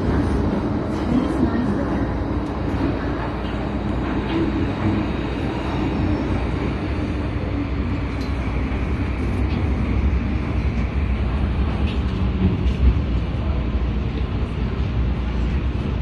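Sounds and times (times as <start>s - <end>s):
train rumbling in tunnel: 0.0s - 16.0s.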